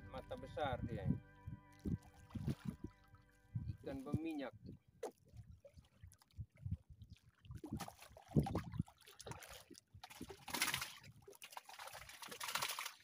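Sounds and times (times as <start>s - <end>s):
water splashing against boat: 1.7s - 13.0s.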